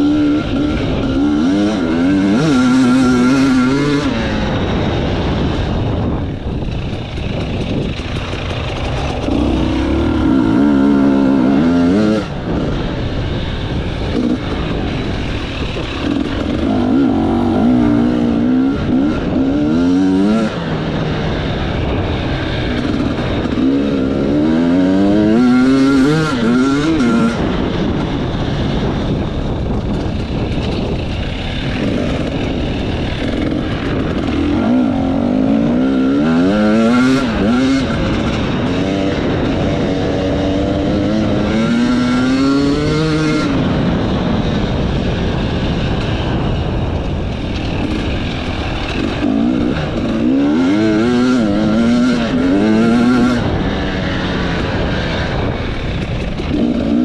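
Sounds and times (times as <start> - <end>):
motorcycle engine revving: 0.0 - 57.0
wind rush: 0.0 - 57.0.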